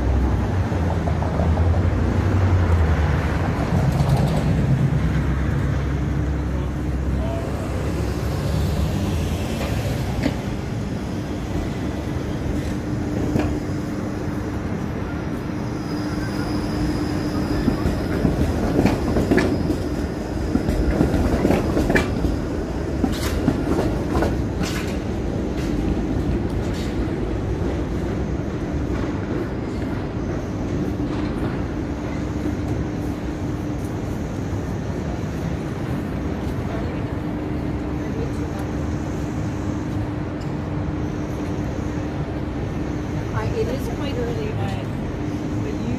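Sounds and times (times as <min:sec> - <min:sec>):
streetcar humming and whining: 0:00.0 - 0:45.9
wheels clacking over tracks: 0:00.0 - 0:45.9.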